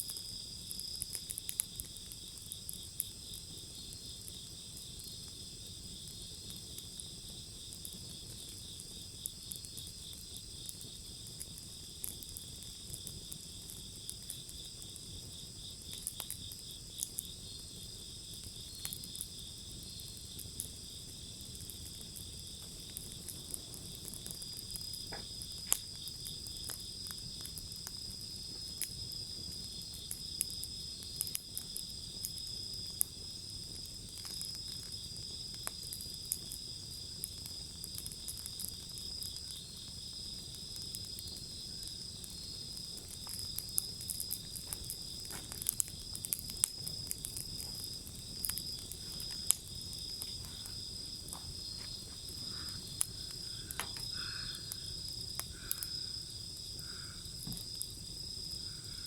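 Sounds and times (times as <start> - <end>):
insects trilling: 0.0 - 59.0
wood fire crackling: 0.0 - 59.0.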